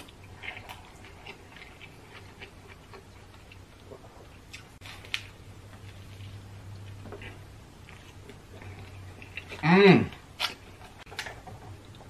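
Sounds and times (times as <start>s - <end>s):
faint steady hum: 0.0s - 12.0s
person chewing food: 0.0s - 12.0s.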